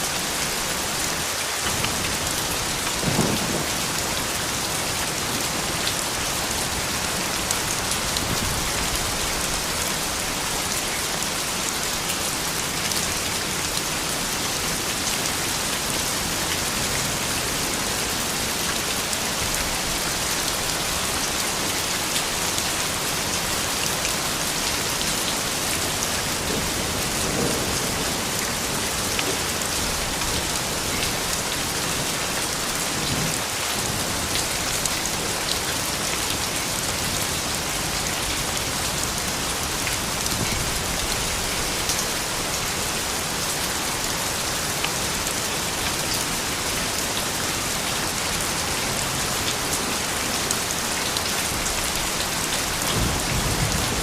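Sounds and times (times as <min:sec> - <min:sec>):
raindrops ticking on surfaces: 0:00.0 - 0:54.0
steady rain falling: 0:00.0 - 0:54.0.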